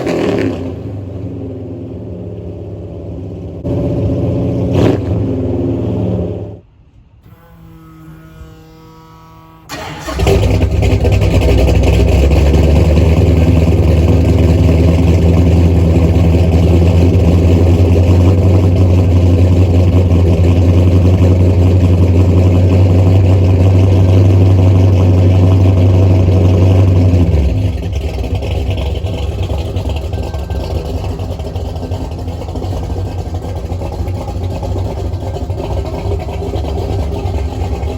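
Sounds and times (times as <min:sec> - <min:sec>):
engine starting and running: 0:00.0 - 0:37.9.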